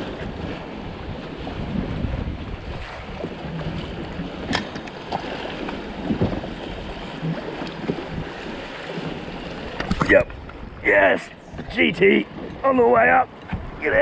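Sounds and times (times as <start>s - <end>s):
waves slapping boat hull: 0.0s - 14.0s
wind buffeting microphone: 0.0s - 14.0s.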